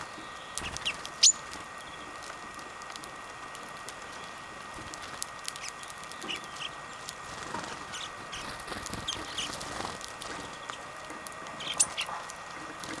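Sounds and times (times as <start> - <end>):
birds chirping: 0.0 - 13.0
seeds cracking clicks: 0.0 - 13.0.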